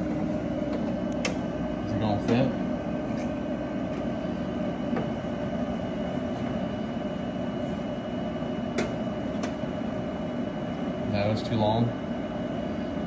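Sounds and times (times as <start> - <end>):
dehumidifier humming and whining: 0.0 - 13.0.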